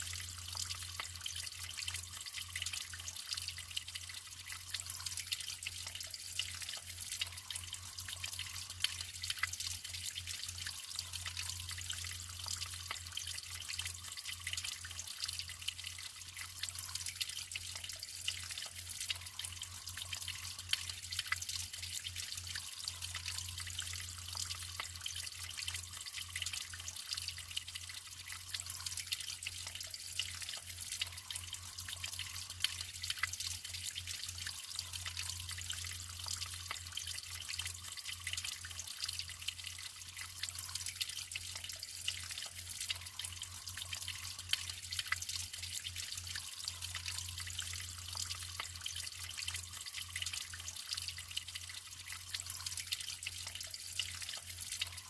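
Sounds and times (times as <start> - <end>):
water drips and splashes: 0.0 - 55.0
water flowing and trickling: 0.0 - 55.0.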